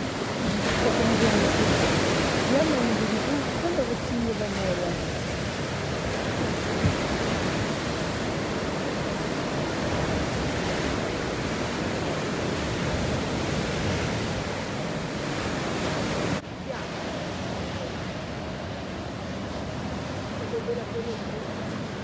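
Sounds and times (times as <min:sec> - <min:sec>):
sea surf: 0:00.0 - 0:22.0
wind: 0:00.0 - 0:22.0.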